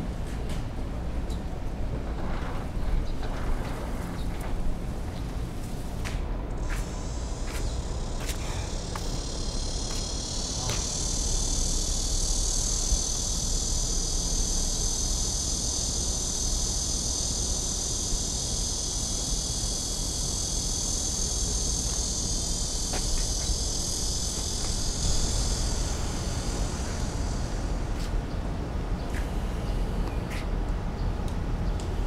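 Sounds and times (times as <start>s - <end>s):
cicadas droning: 0.0s - 32.0s.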